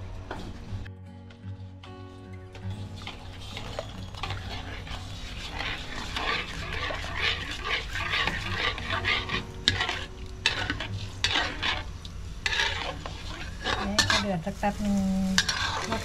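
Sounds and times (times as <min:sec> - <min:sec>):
sauce bubbling and sizzling: 0:02.0 - 0:16.0
spatula scraping in wok: 0:02.6 - 0:16.0.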